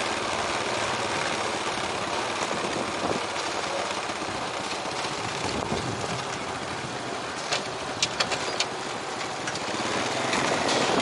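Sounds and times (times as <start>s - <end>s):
motorbike engine running: 0.0s - 11.0s
road and wind noise: 0.0s - 11.0s.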